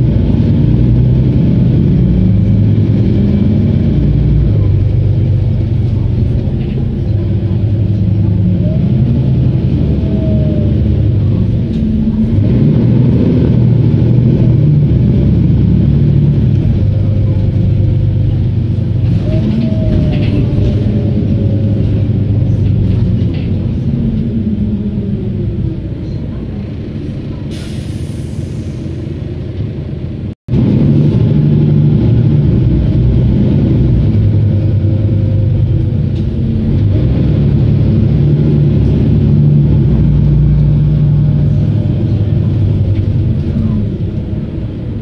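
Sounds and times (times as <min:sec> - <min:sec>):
bus diesel engine drone: 0:00.0 - 0:45.0.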